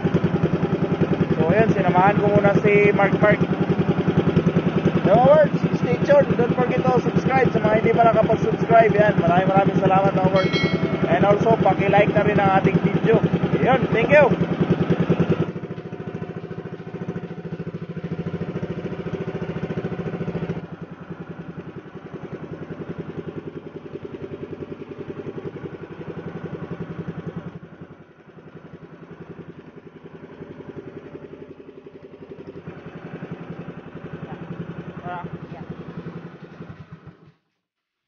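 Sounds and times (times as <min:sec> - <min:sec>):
small boat engine running: 0:00.0 - 0:37.5.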